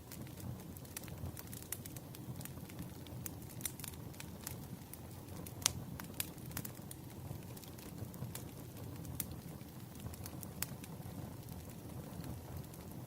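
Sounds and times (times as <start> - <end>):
campfire crackling and popping: 0.0 - 13.0
low rumble of fire: 0.0 - 13.0.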